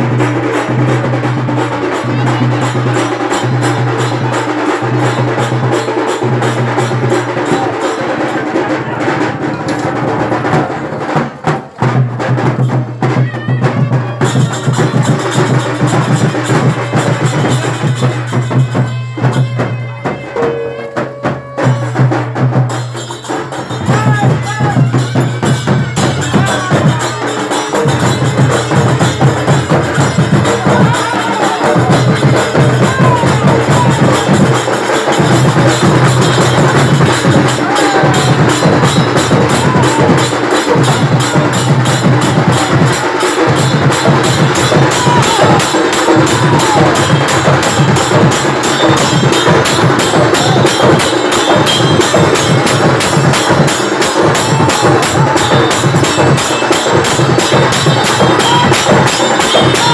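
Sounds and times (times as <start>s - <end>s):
fast drumming: 0.0s - 59.9s.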